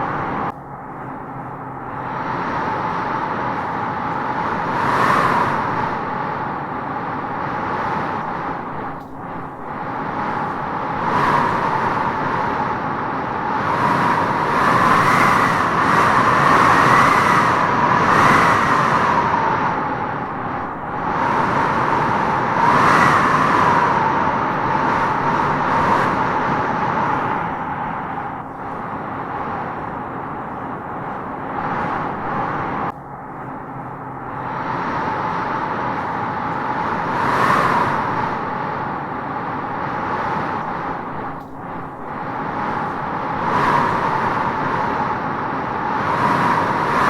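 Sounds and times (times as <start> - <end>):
wind howling through trees: 0.0 - 47.0.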